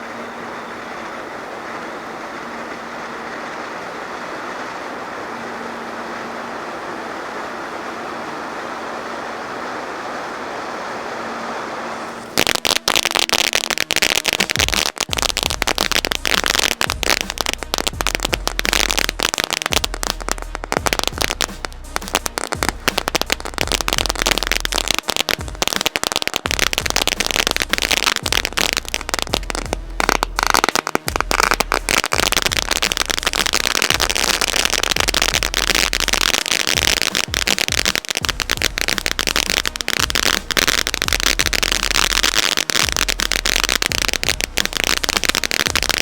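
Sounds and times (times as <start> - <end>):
firework crackling: 0.0 - 46.0
firework hissing spray: 0.0 - 46.0.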